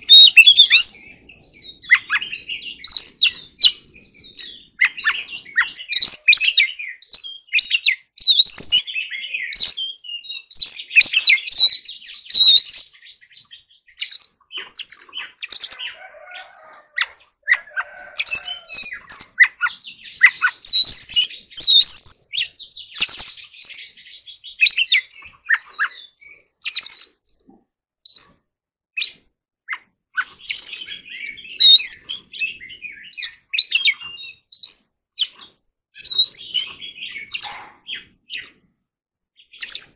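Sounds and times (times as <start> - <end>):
bird singing whistled phrases: 0.0 - 28.4, 29.0 - 38.6, 39.4 - 39.9.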